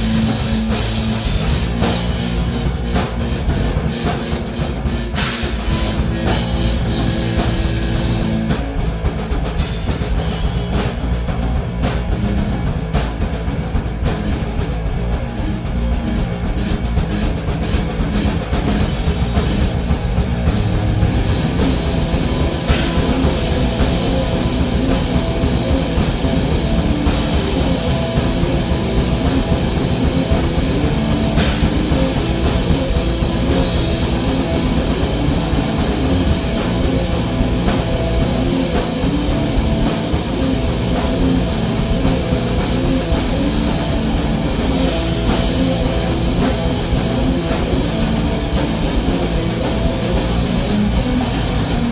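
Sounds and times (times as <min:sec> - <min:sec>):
drum kit playing: 0:00.0 - 0:51.9
electric guitar riff: 0:00.0 - 0:51.9.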